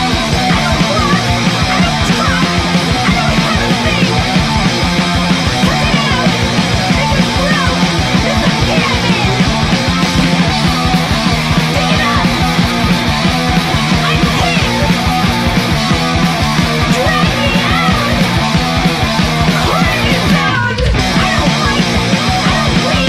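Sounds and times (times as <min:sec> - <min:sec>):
bass guitar: 0:00.0 - 0:23.0
distorted electric guitars: 0:00.0 - 0:23.0
driving drums: 0:00.0 - 0:23.0
hardcore punk band playing: 0:00.0 - 0:23.0.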